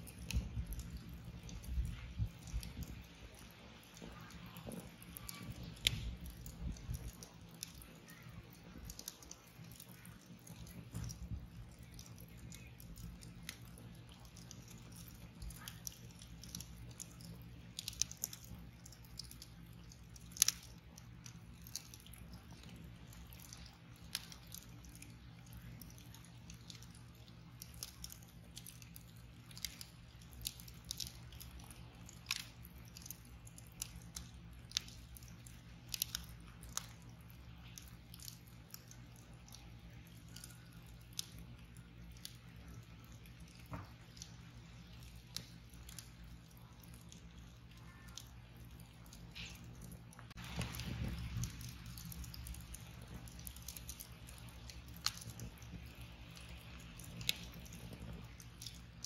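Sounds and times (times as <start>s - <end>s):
faint low hum: 0.0s - 59.0s
log crackling and popping: 0.0s - 59.0s.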